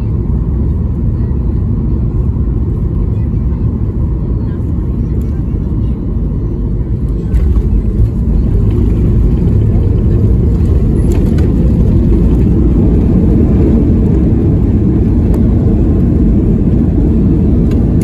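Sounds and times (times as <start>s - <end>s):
airplane cabin rumble on runway: 0.0s - 18.0s.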